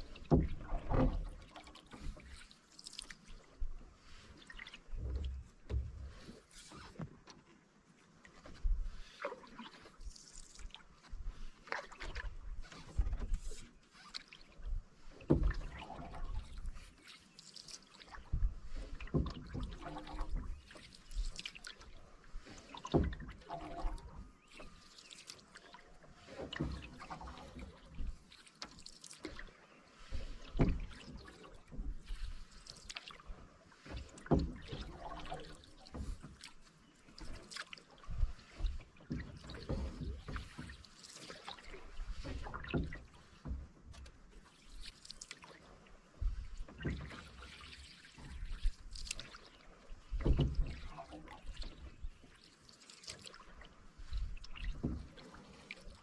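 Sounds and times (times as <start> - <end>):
canoe paddle splashing: 0.0 - 56.0
water trickling off paddle: 0.0 - 56.0.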